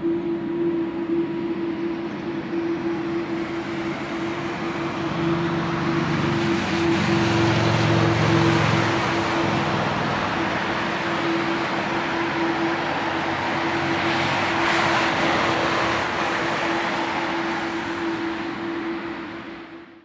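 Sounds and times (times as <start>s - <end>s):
jet engines hissing at idle: 0.0s - 19.8s.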